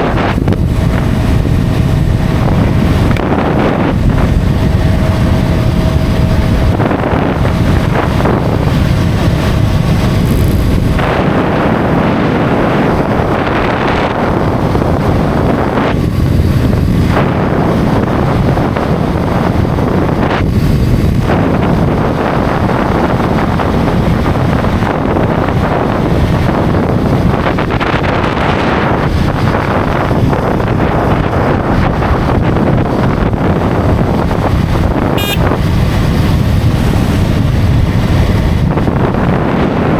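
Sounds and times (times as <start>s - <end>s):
motorcycle engine: 0.0s - 39.2s
tyre-on-road noise: 0.0s - 39.9s
wind buffeting microphone: 0.0s - 39.9s.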